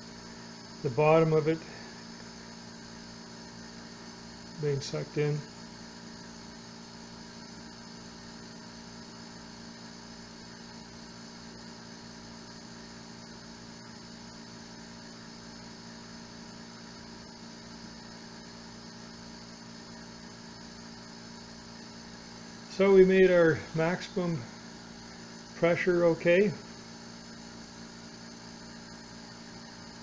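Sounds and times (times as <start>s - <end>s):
electric vacuum pump humming: 0.0s - 30.0s.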